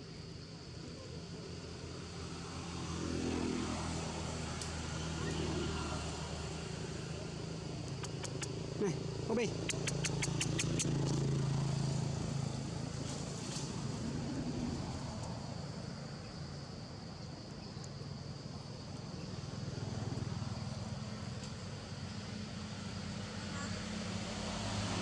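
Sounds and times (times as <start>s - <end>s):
distant vehicle engine hum: 1.0s - 25.0s.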